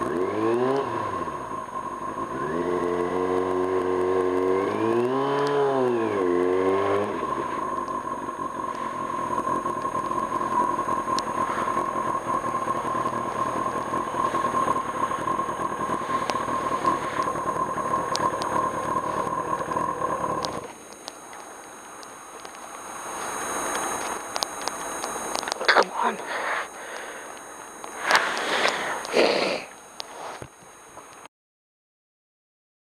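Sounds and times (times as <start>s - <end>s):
high whine: 0.0s - 31.3s
motorcycle engine riding: 0.0s - 31.3s.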